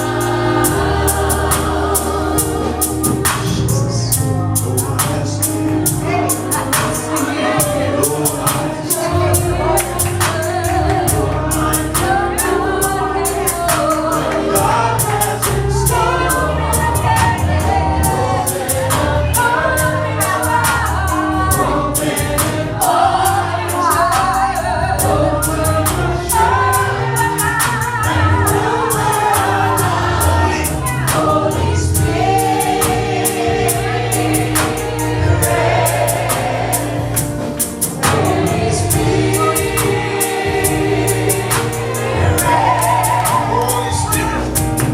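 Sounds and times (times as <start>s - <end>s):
choir and congregation singing: 0.0s - 44.9s
live band with bass and drums: 0.0s - 44.9s.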